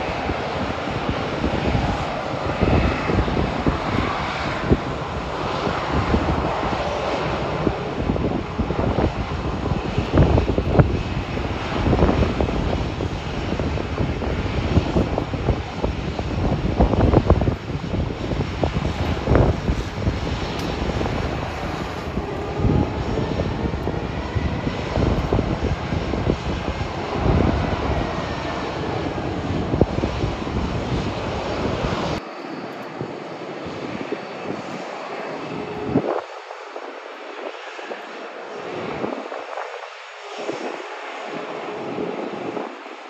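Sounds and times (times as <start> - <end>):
deep engine rumble: 0.0 - 36.2
airliner engine rush: 0.0 - 43.0
faint engine whine: 0.0 - 43.0.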